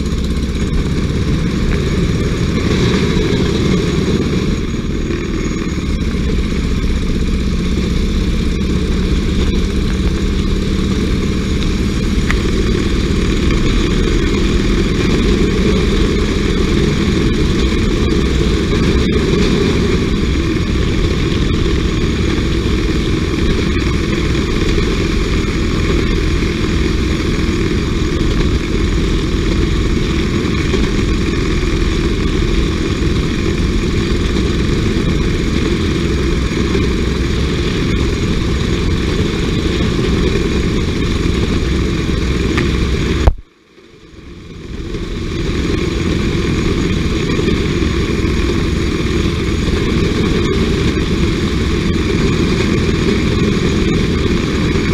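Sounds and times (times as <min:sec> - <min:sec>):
small engine running on rails: 0:00.0 - 0:54.9.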